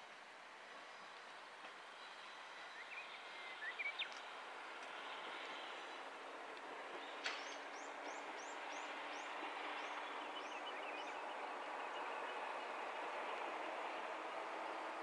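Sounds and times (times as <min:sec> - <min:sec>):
diesel railcar running: 0:00.2 - 0:15.0.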